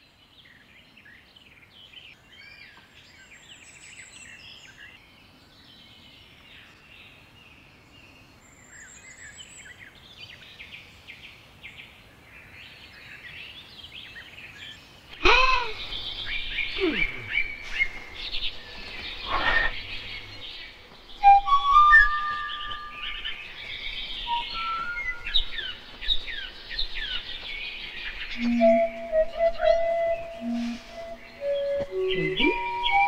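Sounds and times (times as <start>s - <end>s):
birds chirping and trilling: 0.1s - 33.0s.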